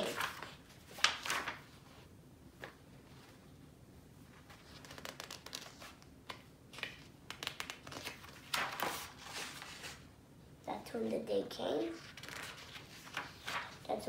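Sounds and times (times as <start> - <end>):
paper pages rustling: 0.0 - 3.5, 4.2 - 10.1, 11.9 - 14.0.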